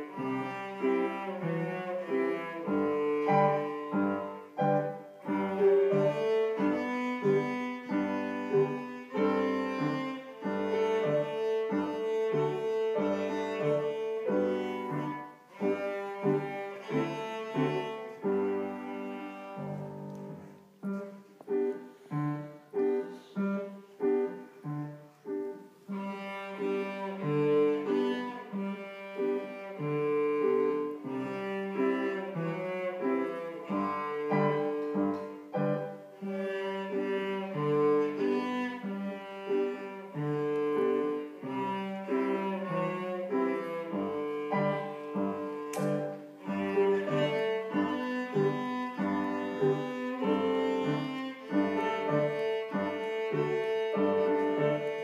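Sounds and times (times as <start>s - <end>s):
cello played with bow: 0.0s - 55.0s
grand piano: 0.0s - 55.0s.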